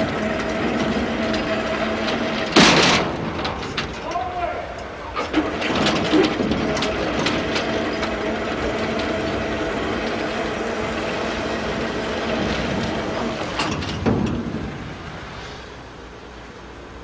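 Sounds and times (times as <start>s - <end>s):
motorized gate running with whine: 0.0s - 15.4s.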